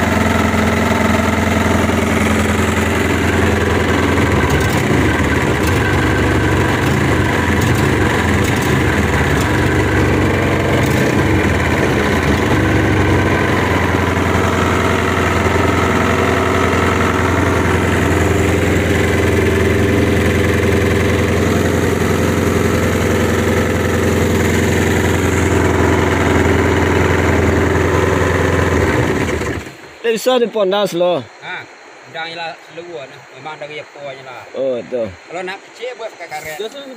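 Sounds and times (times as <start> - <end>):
petrol engine running: 0.0 - 30.0.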